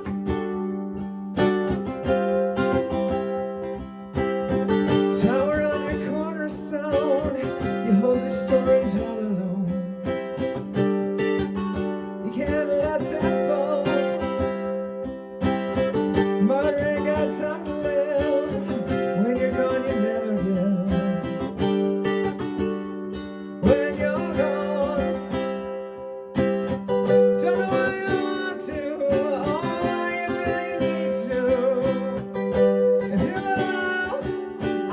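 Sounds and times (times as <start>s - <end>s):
ukulele strumming: 0.0s - 34.9s
person singing: 4.4s - 25.8s, 26.4s - 34.9s.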